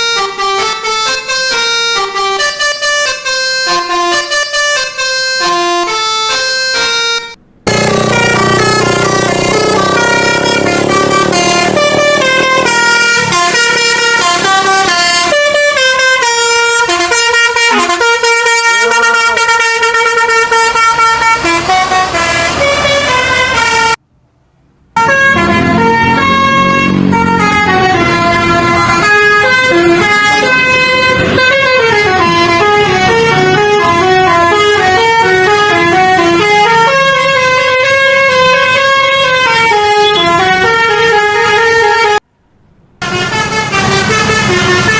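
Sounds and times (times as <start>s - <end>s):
multi-tone air horn melody: 0.0s - 24.0s, 25.0s - 42.2s, 43.0s - 44.9s.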